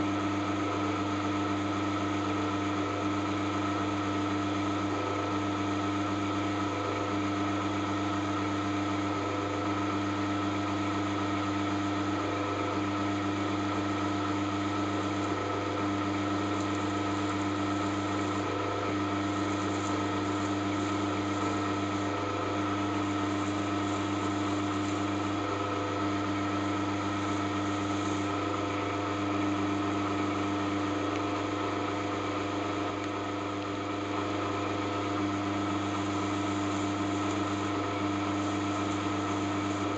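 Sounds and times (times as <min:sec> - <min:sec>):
drilling machine motor hum: 0:00.0 - 0:39.9.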